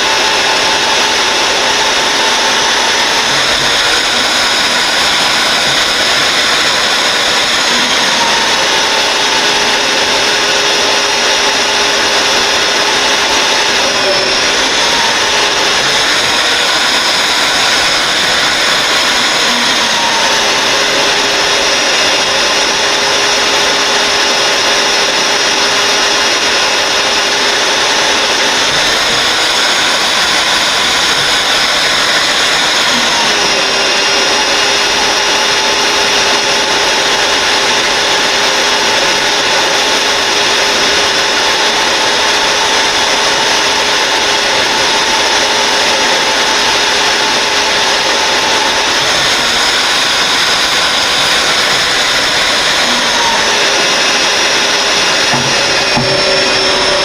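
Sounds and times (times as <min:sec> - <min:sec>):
cutter drilling through steel: 0:00.0 - 0:57.0
drill motor whining: 0:00.0 - 0:57.0.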